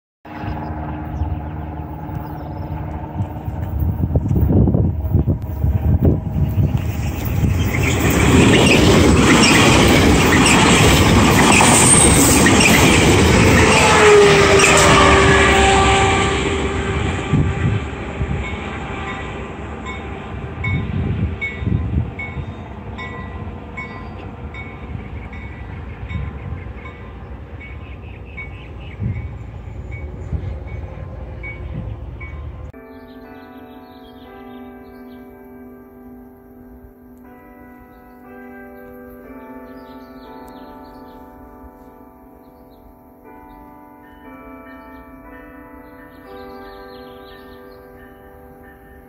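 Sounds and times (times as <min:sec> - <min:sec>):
train passing: 0:00.3 - 0:37.2, 0:37.9 - 0:49.0.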